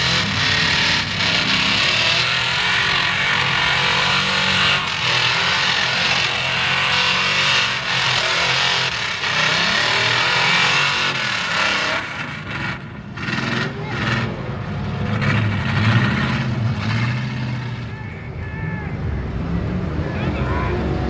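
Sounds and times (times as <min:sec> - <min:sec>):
truck engine revving hard: 0:00.0 - 0:17.9
tires churning through mud: 0:00.0 - 0:18.0.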